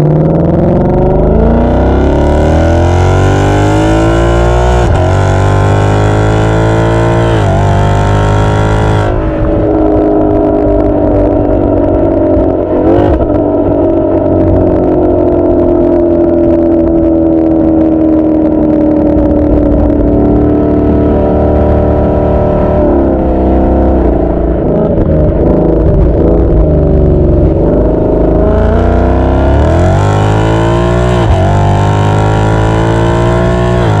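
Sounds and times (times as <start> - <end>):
car exhaust while driving: 0.0 - 34.0.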